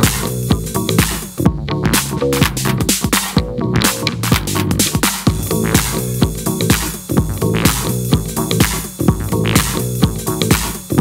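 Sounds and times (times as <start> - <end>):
kick drum: 0.0 - 11.0
synth bass line: 0.0 - 11.0.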